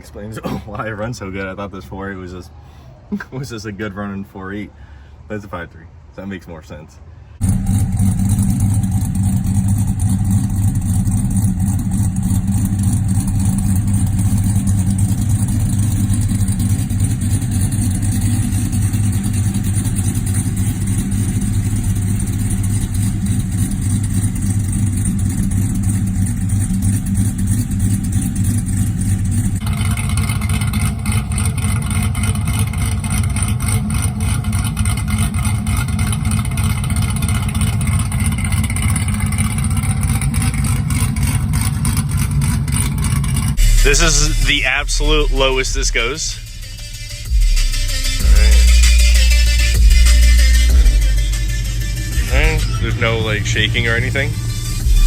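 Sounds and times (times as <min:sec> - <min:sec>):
pickup engine running: 0:07.3 - 0:55.0.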